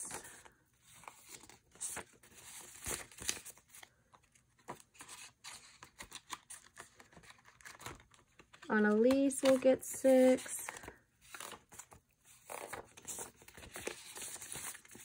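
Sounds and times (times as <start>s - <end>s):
paper bills rustling: 0.0s - 15.0s.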